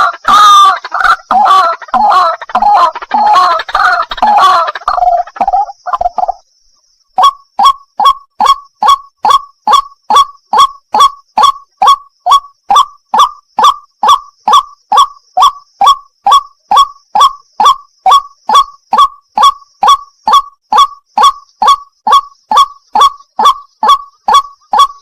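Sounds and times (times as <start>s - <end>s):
waterhen calling sharp notes: 0.0s - 6.4s, 7.2s - 25.0s.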